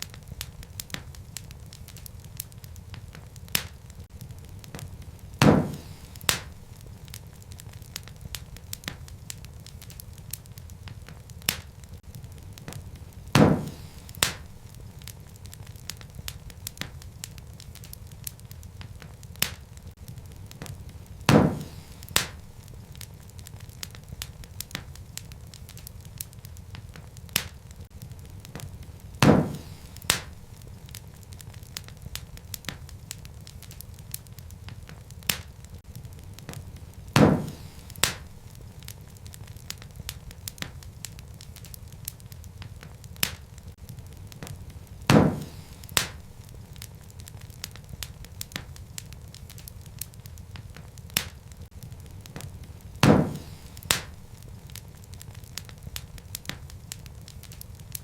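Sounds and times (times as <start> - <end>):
loud pops from fire: 0.0 - 58.0
wood fire crackling: 0.0 - 58.0.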